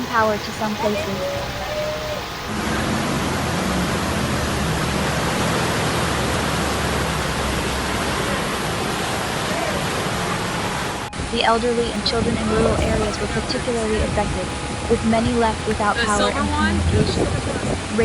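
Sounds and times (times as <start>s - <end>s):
loud rushing water: 0.0s - 18.0s.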